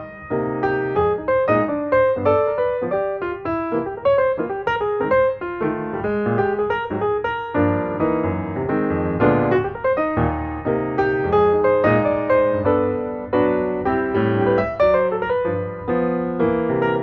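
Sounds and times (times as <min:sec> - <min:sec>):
piano melody over chords: 0:00.0 - 0:17.0.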